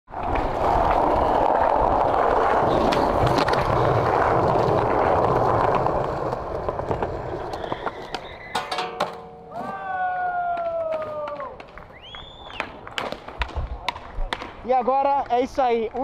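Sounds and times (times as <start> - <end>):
skateboard wheels rolling on concrete: 0.1 - 16.0.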